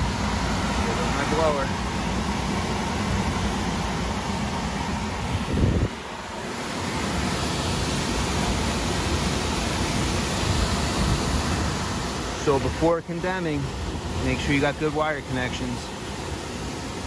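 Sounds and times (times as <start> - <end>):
air conditioning blower rushing: 0.0 - 17.0.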